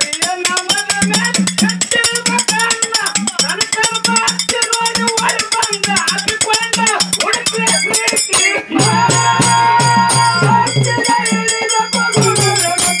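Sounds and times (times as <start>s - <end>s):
drum: 0.0s - 13.0s
hand cymbals clashing: 0.0s - 13.0s
people singing: 0.0s - 13.0s.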